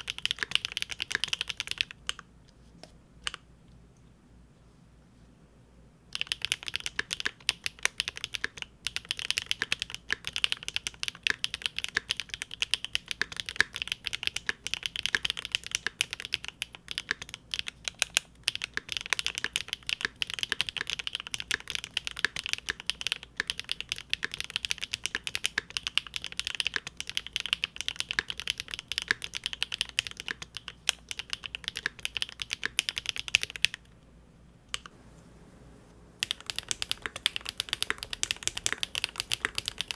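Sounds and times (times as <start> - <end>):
fast typing on mechanical keyboard: 0.0 - 2.2, 6.1 - 33.9, 36.2 - 39.9.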